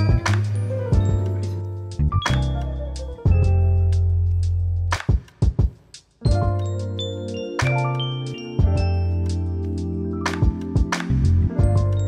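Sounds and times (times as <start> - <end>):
held chords over bass: 0.0 - 5.0, 6.3 - 12.0.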